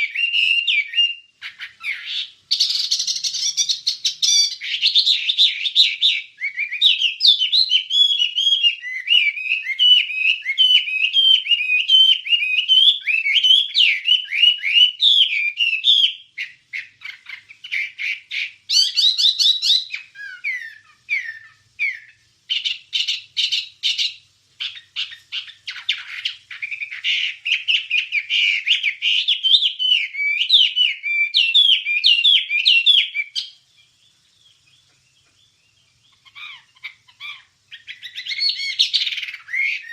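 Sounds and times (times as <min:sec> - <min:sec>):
songbird chattering song: 0:00.0 - 0:39.9.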